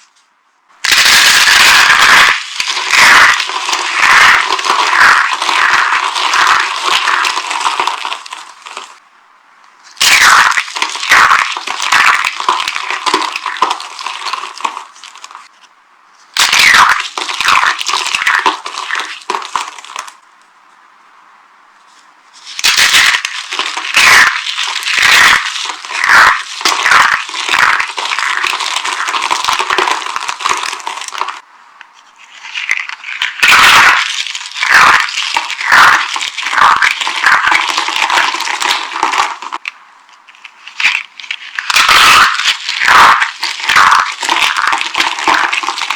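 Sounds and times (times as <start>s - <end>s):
dry soap crunching: 0.8s - 9.0s, 9.8s - 15.6s, 16.3s - 20.2s, 22.3s - 31.4s, 32.0s - 45.9s.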